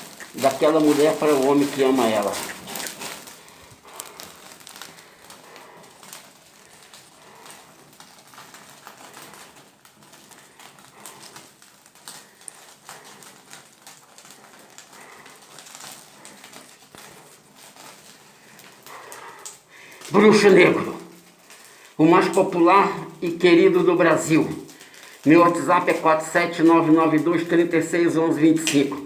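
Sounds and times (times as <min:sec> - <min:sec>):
bonfire crackling: 0:00.0 - 0:29.0.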